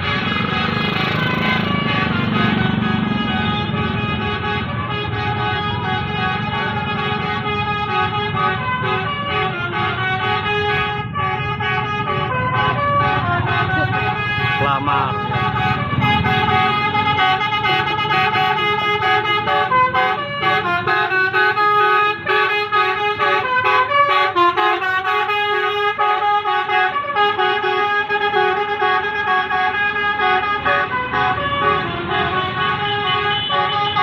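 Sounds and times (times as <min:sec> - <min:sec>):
musical air horn playing a tune: 0:00.0 - 0:34.0.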